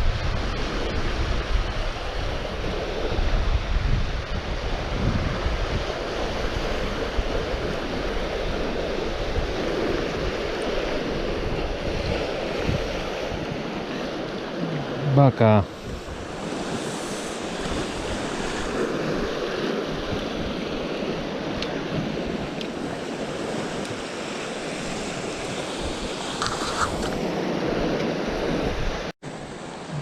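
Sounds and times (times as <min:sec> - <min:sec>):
wind on microphone: 0:00.0 - 0:15.0, 0:15.6 - 0:30.0
waves washing against rocks: 0:00.0 - 0:30.0.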